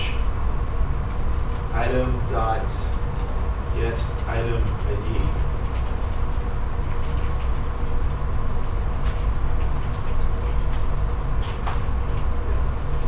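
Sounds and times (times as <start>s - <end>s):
room noise rumble and hum: 0.0s - 13.0s.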